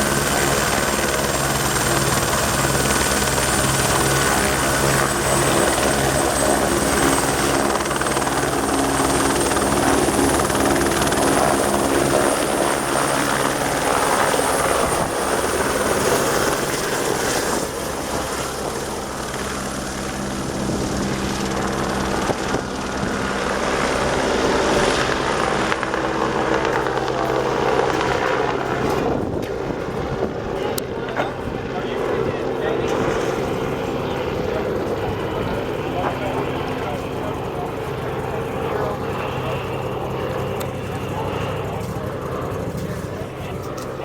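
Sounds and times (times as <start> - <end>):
helicopter engine drone: 0.0 - 44.0
helicopter rotor chop: 0.0 - 44.0.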